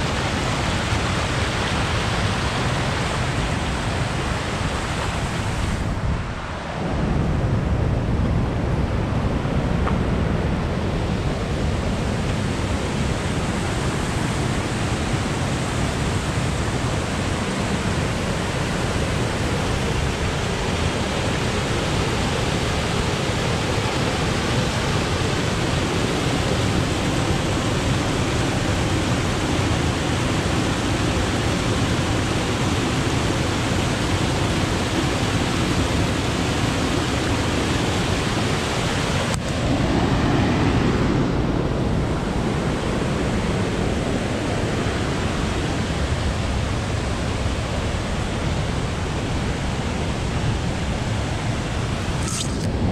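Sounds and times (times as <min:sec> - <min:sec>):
waterfall rushing: 0:00.0 - 0:06.8, 0:10.1 - 0:52.9.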